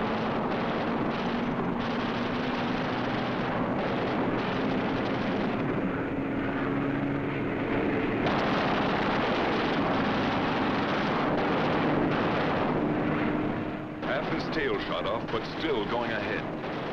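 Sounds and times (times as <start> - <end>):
propeller plane engines droning: 0.0 - 16.9.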